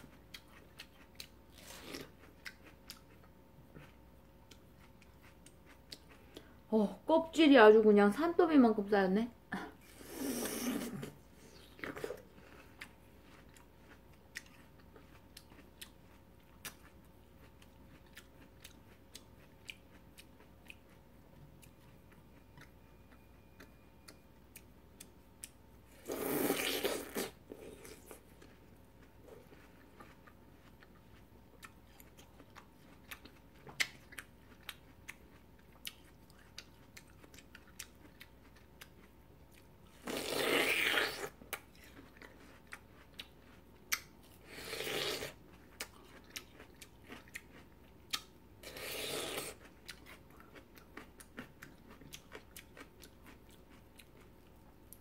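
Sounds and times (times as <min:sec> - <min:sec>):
watermelon crunching: 0:00.0 - 0:06.5, 0:10.0 - 0:22.7, 0:25.0 - 0:55.0
soft chewing clicks: 0:00.0 - 0:06.6, 0:11.6 - 0:25.9, 0:27.6 - 0:39.9, 0:41.4 - 0:44.4, 0:45.4 - 0:48.4, 0:49.4 - 0:55.0.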